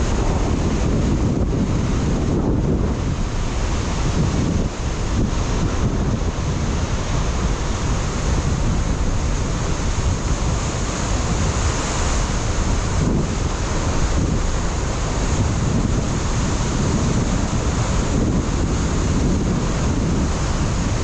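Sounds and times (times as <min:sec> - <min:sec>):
ocean surf breaking on rocks: 0:00.0 - 0:21.0
wind buffeting microphone: 0:00.0 - 0:21.0.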